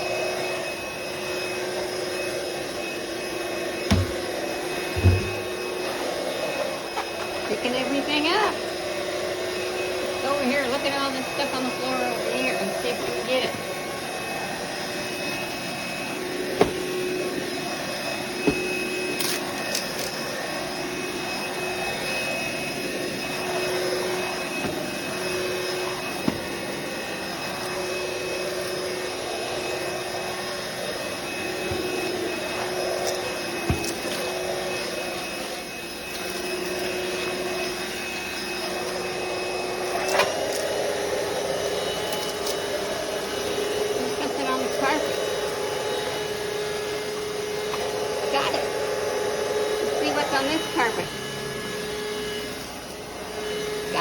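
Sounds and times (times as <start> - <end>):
stick vacuum running: 0.0 - 54.0.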